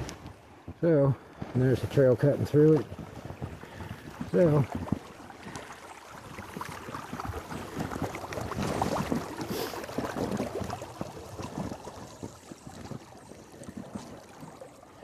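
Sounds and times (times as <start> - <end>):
running water: 0.0 - 15.0
boots splashing through river: 1.4 - 15.0.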